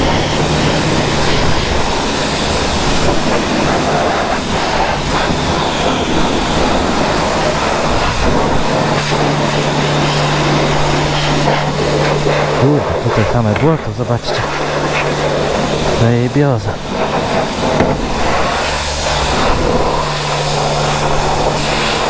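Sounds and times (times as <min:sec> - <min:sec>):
pressure washer spraying water: 0:00.0 - 0:22.0
pump humming: 0:00.0 - 0:22.0.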